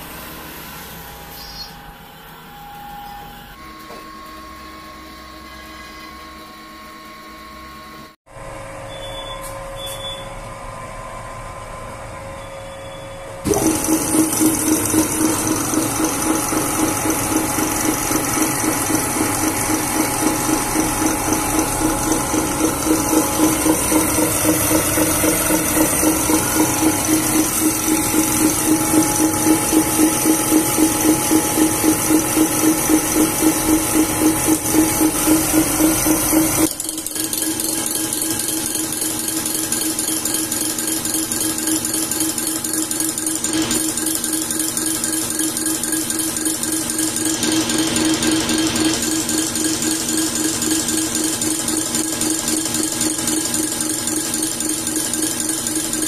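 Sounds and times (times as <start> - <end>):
injection pump test bench humming: 0.0 - 56.0.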